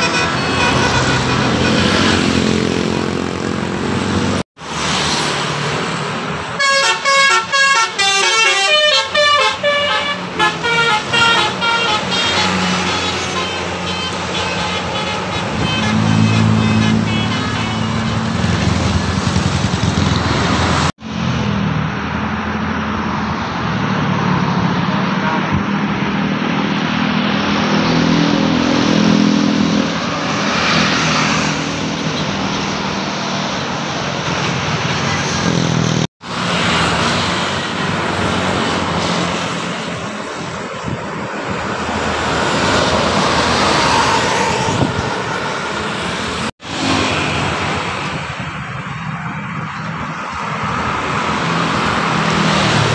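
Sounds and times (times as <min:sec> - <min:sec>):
vehicles driving past: 0:00.0 - 0:52.9.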